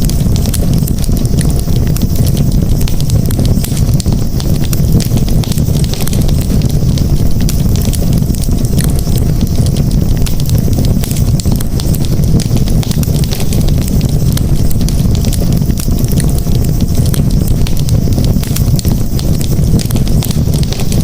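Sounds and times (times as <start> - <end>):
campfire crackling and popping: 0.0 - 21.0
low rumble: 0.0 - 21.0.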